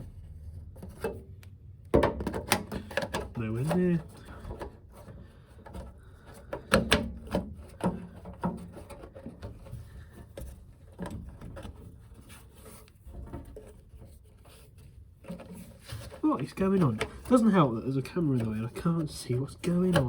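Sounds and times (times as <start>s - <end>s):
plastic filter knocking and scraping: 0.0s - 20.0s.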